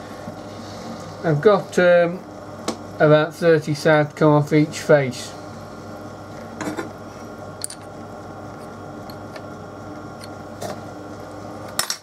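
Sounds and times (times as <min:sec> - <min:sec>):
low workshop hum: 0:00.0 - 0:12.0.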